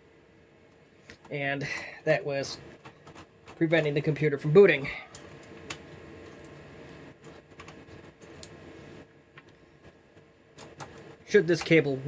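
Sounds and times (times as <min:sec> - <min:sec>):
faint hum: 0:00.0 - 0:12.0
cable clicking and rustling: 0:00.7 - 0:04.3, 0:05.1 - 0:12.0.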